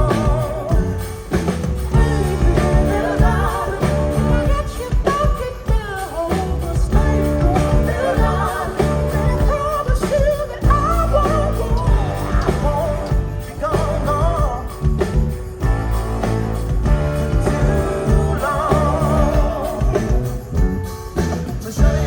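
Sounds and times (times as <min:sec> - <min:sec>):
person singing: 0:00.0 - 0:15.1, 0:17.1 - 0:22.0
live rock band playing: 0:00.0 - 0:22.0.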